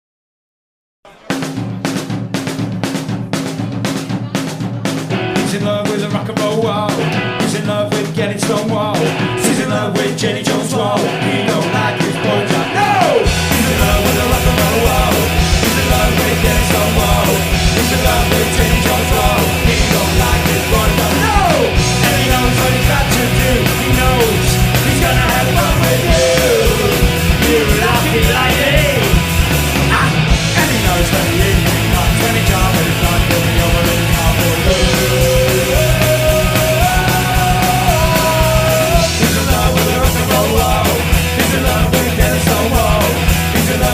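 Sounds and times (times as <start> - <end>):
live punk rock band: 1.2 - 43.9
person singing: 4.2 - 43.9.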